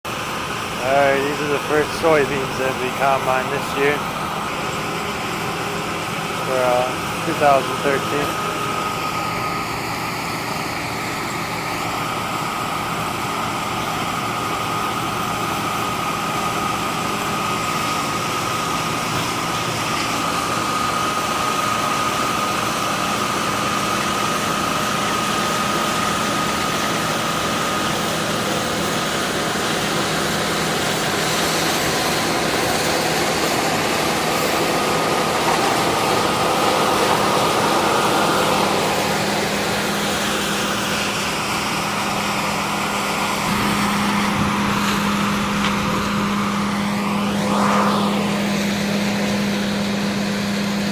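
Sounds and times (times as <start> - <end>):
farm machinery engine running: 0.0 - 50.9
high whine: 0.1 - 50.9.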